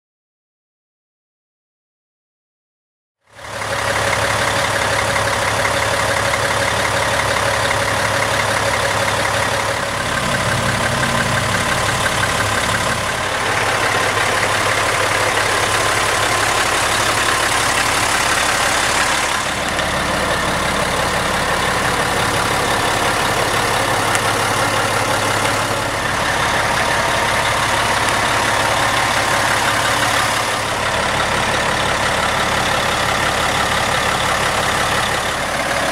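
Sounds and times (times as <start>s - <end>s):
diesel engine idling: 3.3s - 35.9s.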